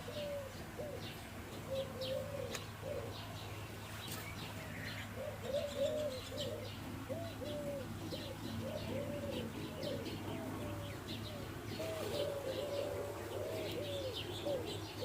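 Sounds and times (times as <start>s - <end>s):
doves cooing: 0.0s - 15.0s
small birds chirping: 0.0s - 15.0s
steady low hum: 0.0s - 15.0s.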